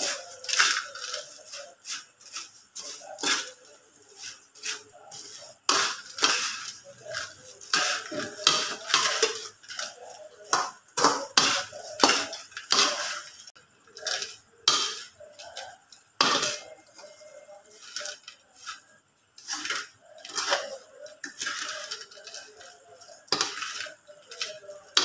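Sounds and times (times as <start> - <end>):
metal spatula scraping a wok: 0.0 - 25.0.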